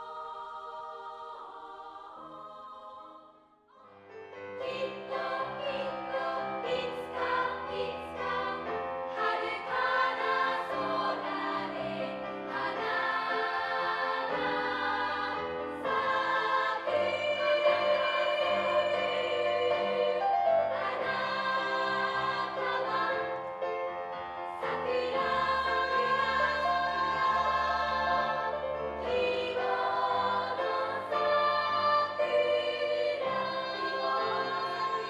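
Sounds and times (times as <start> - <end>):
girls' choir singing: 0.0 - 23.5, 24.5 - 35.0.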